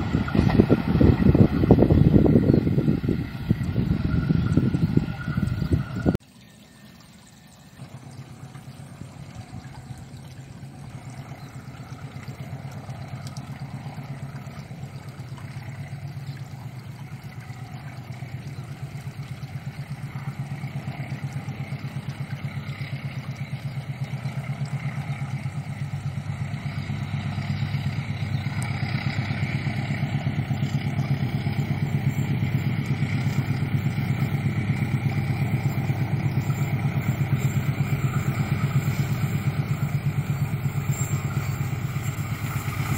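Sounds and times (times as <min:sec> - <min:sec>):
diesel locomotive engine drone: 0:00.0 - 0:42.9.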